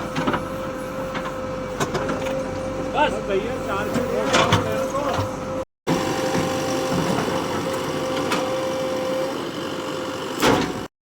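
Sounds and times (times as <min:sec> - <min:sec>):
diesel engine running: 0:00.0 - 0:10.9
engine whine: 0:00.0 - 0:10.9.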